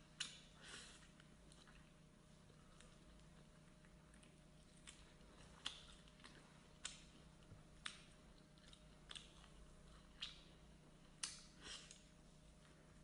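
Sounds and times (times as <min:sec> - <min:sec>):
faint steady hum: 0:00.0 - 0:13.0
person chewing food: 0:00.0 - 0:13.0.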